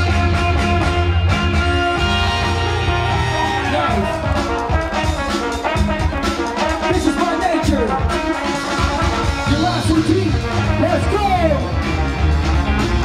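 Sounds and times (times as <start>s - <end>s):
brass horn lines: 0.0s - 13.0s
breakbeat drum beat: 2.0s - 13.0s.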